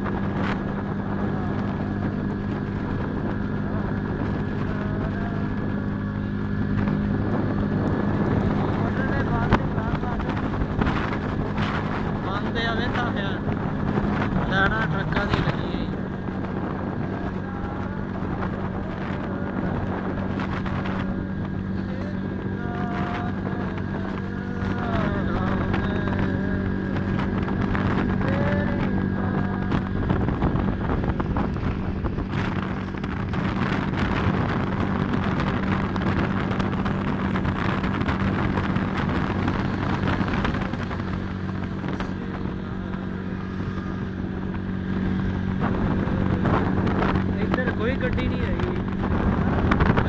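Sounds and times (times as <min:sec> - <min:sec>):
motorcycle engine cruising: 0:00.0 - 0:50.0
wind on microphone: 0:00.0 - 0:50.0.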